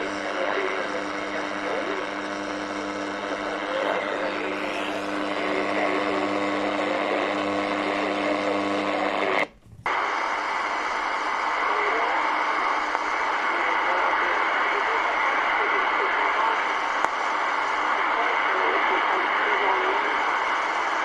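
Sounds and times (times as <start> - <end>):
shortwave radio static hiss: 0.0 - 21.0
steady low hum: 0.0 - 21.0.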